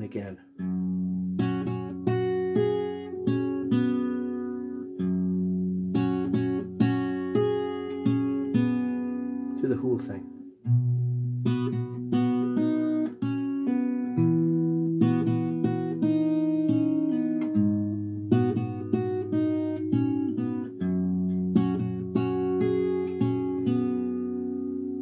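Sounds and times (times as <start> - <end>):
fingerstyle acoustic guitar: 0.5 - 25.0.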